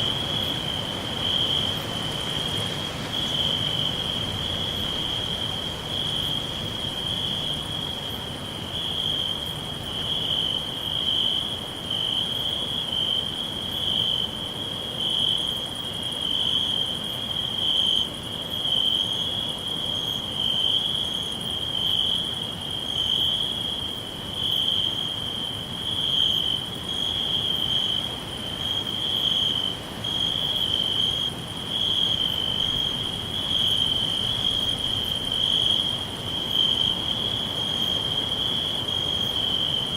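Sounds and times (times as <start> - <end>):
crickets chirping: 0.0 - 39.9
higher pulsing insect call: 0.0 - 39.9.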